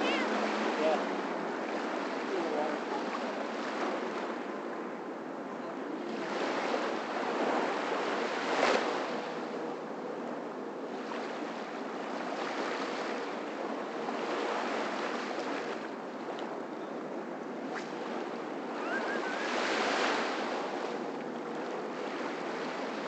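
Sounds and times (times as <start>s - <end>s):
small waves washing on sand: 0.0s - 23.0s
wind on microphone: 0.0s - 23.0s.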